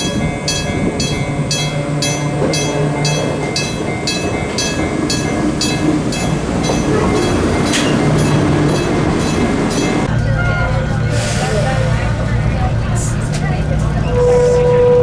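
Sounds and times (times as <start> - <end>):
electric train rumbling: 0.0 - 15.0
level-crossing warning bell: 0.0 - 15.0.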